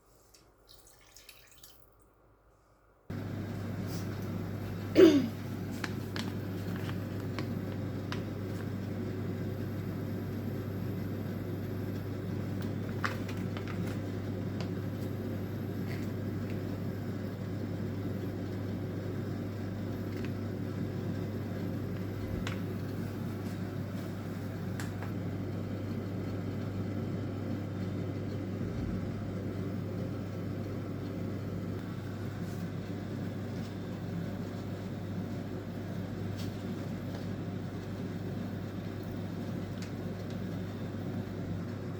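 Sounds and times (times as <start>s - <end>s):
kitchen appliance humming: 3.1s - 41.9s.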